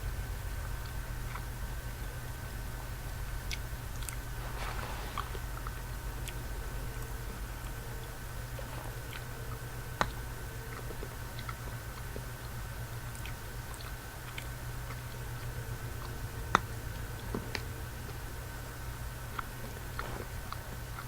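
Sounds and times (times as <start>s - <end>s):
low background hum: 0.0s - 21.0s
chewing chocolate bar: 0.7s - 21.0s.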